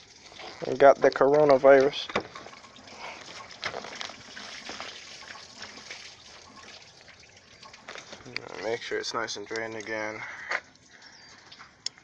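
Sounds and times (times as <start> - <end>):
water trickling from hose: 0.0 - 12.0.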